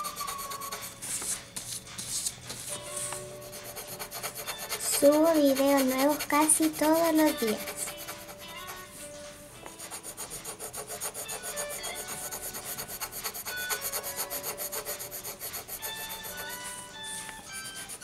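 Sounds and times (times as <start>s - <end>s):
pencil shading on paper: 0.0s - 18.0s.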